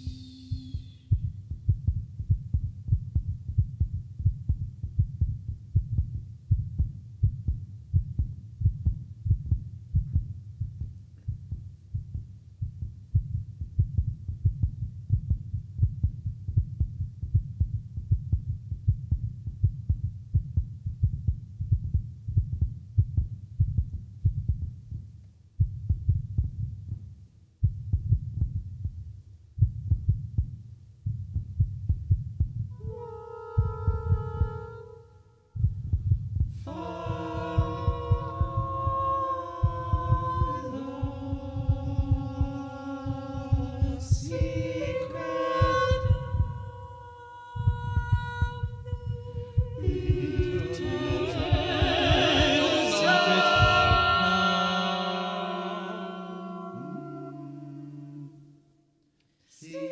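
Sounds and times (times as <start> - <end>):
low throbbing pulses: 0.0 - 27.0, 27.6 - 35.0, 35.6 - 58.4.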